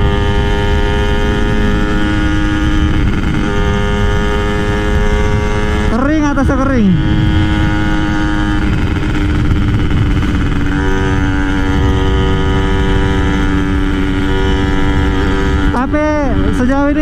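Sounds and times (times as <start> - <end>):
two-stroke engine at high revs: 0.0 - 17.0
wind on microphone: 0.0 - 17.0.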